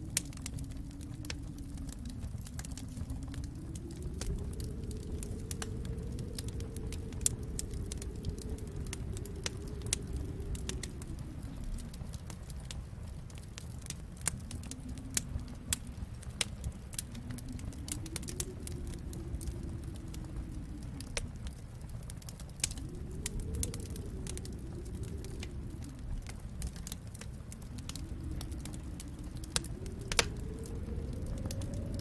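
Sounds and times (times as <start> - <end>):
low fire rumble: 0.0 - 32.0
wood fire crackling: 0.0 - 32.0.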